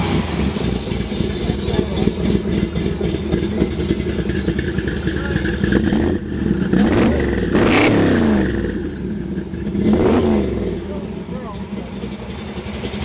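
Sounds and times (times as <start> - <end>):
vee eight engine idling: 0.0 - 13.0.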